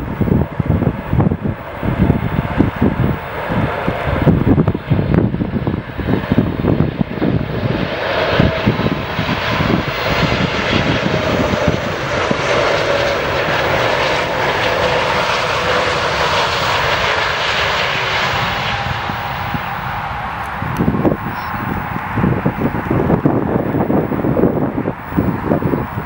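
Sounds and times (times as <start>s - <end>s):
airliner passing: 0.0s - 26.0s
wind buffeting microphone: 0.0s - 26.0s.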